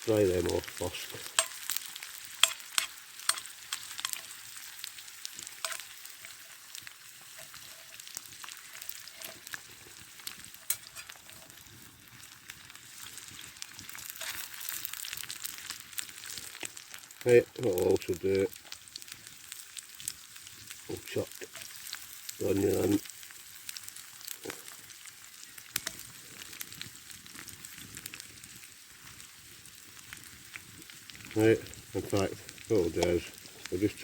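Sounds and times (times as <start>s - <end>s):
potatoes sizzling in oil: 0.0s - 34.0s.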